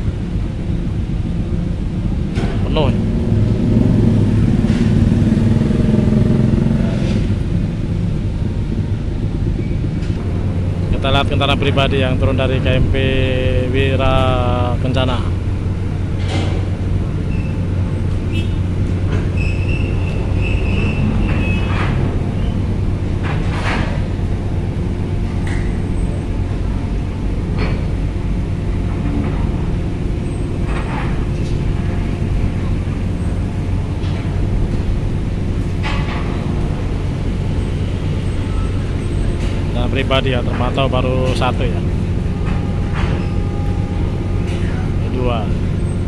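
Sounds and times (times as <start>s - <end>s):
diesel engine drone: 0.0s - 46.0s
vehicles clanking on steel ramp: 0.0s - 46.0s.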